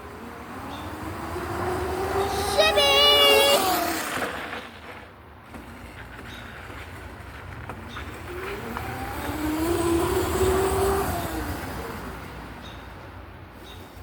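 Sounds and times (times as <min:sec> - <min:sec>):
vehicle passing by: 0:00.0 - 0:04.8, 0:07.0 - 0:13.5.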